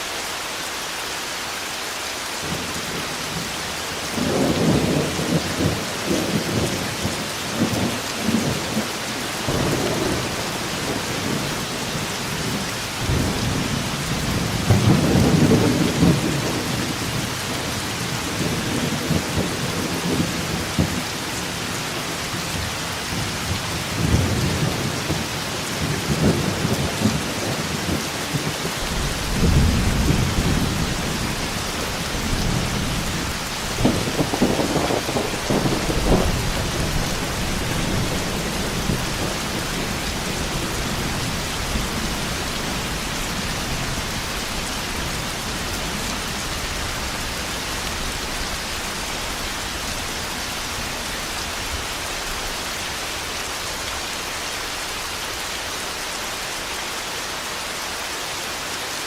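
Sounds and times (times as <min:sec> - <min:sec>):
heavy rain: 0:00.0 - 0:59.0
thunder rumbling and cracking: 0:04.2 - 0:21.7, 0:22.5 - 0:52.6.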